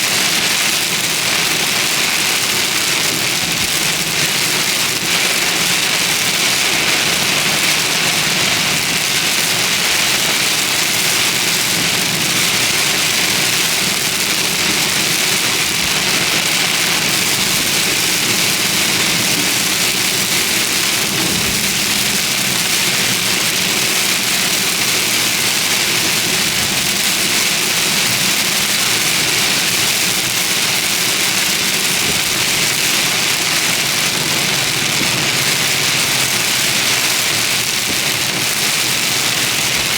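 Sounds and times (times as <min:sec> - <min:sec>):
heavy rain falling: 0:00.0 - 0:39.9
road noise: 0:00.0 - 0:39.9
vehicle engine: 0:03.2 - 0:39.9.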